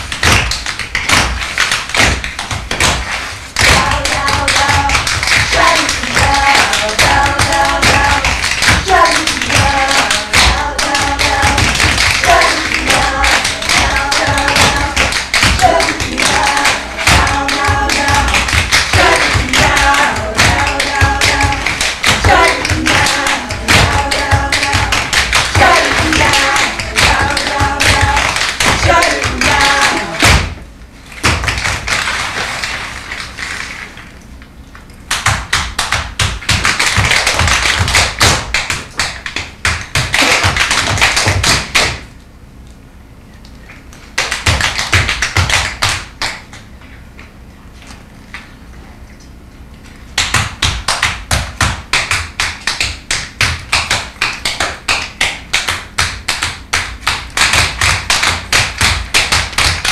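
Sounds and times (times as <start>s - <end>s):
tap shoes on wooden stage: 0.0s - 30.6s, 31.2s - 33.4s, 35.1s - 42.0s, 44.2s - 46.6s, 50.2s - 59.9s.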